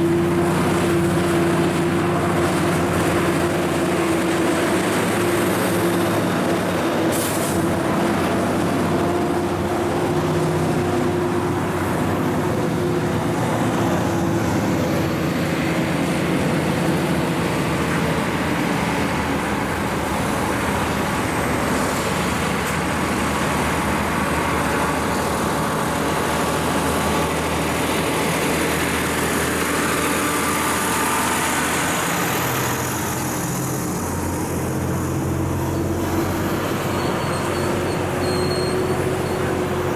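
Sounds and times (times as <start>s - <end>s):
diesel truck engines droning: 0.0s - 39.9s.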